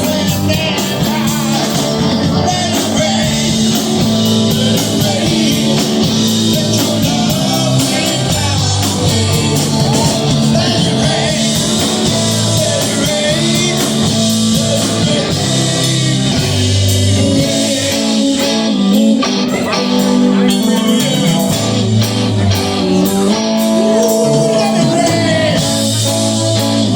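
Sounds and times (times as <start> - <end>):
held bass notes: 0.0 - 26.9
person singing: 0.0 - 26.9
rock band playing: 0.0 - 26.9.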